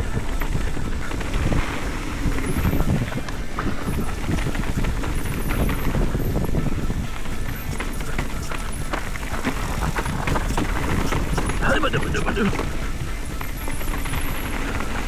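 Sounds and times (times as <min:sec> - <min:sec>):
bike rattling knocks: 0:00.0 - 0:15.0
tyre rumble on dirt: 0:00.0 - 0:15.0
wind buffeting microphone: 0:00.0 - 0:15.0.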